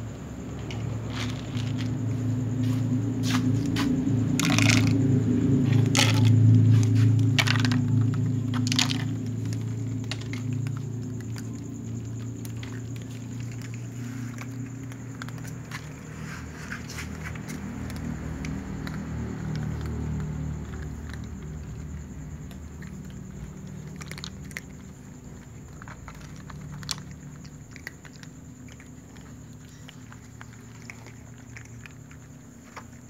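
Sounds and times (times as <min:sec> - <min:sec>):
kibble clicking in plastic bowls: 0:00.6 - 0:02.0, 0:03.6 - 0:33.0.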